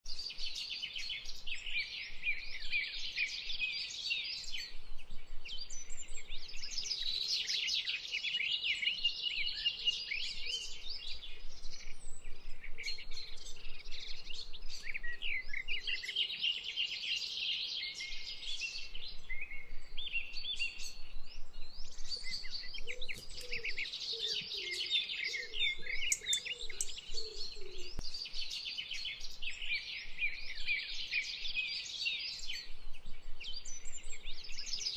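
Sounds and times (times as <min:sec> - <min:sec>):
lower bird calls: 0:00.1 - 0:34.9
songbirds chirping and trilling: 0:00.1 - 0:34.9.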